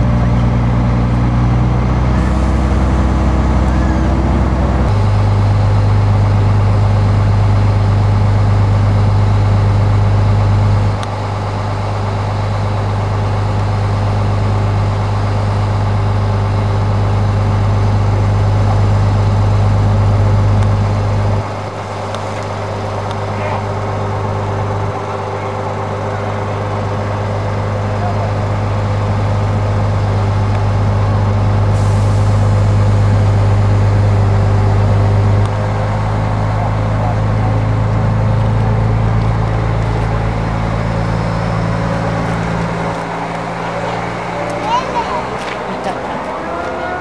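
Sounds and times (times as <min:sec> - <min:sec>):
heavy engine droning: 0:00.0 - 0:47.0.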